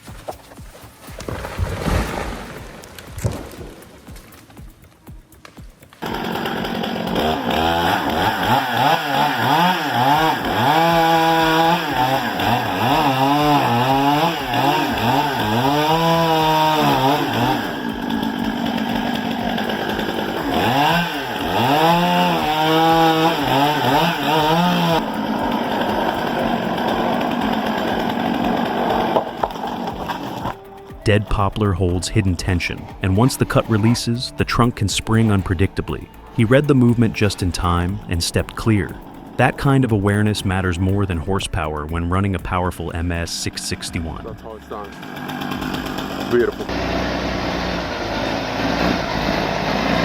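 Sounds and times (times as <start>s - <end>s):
chainsaw cutting and revving: 0.1s - 50.0s.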